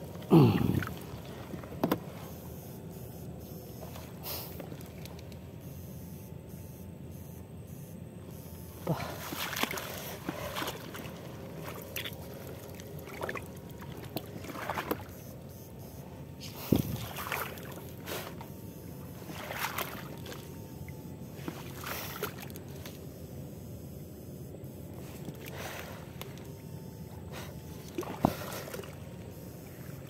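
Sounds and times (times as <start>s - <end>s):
water splashing and sloshing: 0.0s - 5.7s, 8.3s - 23.3s, 24.6s - 30.0s.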